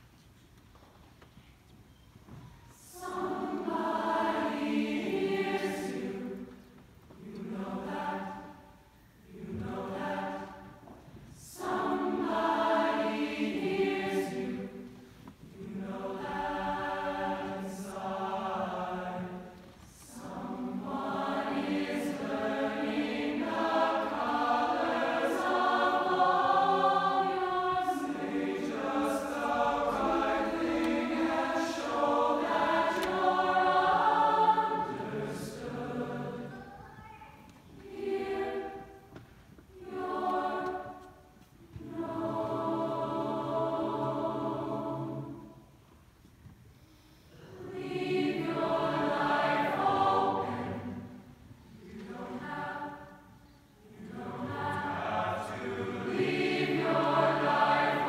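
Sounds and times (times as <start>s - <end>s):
choir singing in harmony: 2.3s - 36.8s, 37.5s - 46.0s, 47.3s - 58.0s.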